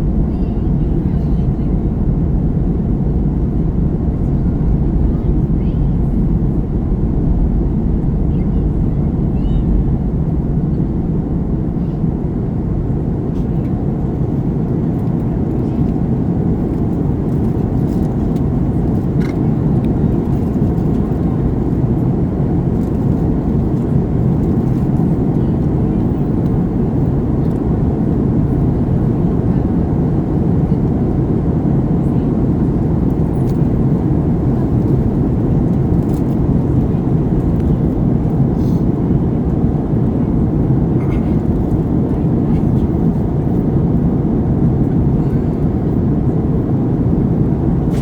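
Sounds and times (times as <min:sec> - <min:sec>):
airliner cabin engine drone: 0:00.0 - 0:48.0.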